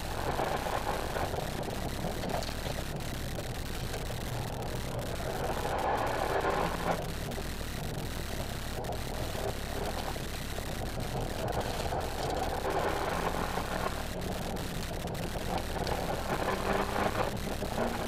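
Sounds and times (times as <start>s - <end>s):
car engine under load: 0.0s - 18.0s
tyre and road noise: 0.0s - 18.0s.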